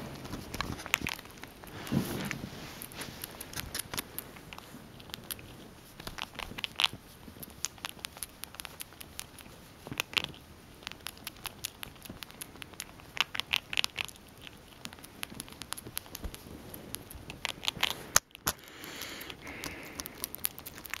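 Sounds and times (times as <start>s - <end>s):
soft rustle: 0.0s - 18.2s
squirrel chewing crunchy treat: 0.0s - 21.0s.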